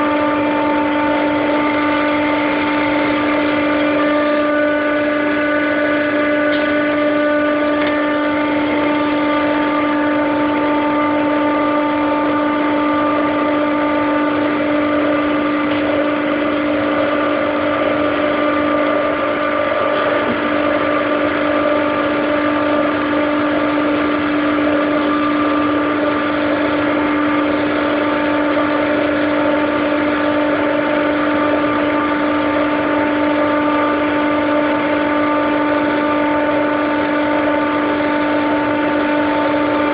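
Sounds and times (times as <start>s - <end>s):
chiller compressor humming: 0.0s - 39.9s.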